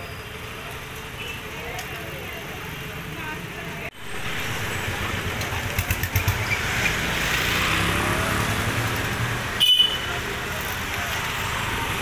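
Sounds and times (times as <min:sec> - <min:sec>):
scooters and motorcycles passing: 0:00.2 - 0:12.0.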